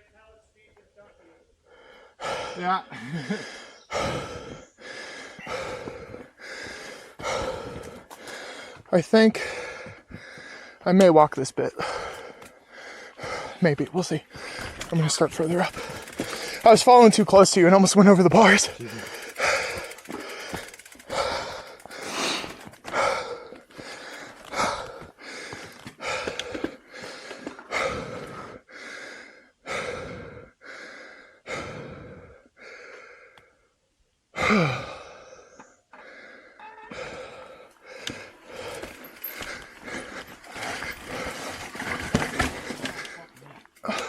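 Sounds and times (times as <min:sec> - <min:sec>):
heavy rhythmic breathing: 0:01.2 - 0:10.9, 0:11.6 - 0:33.8, 0:34.4 - 0:44.0.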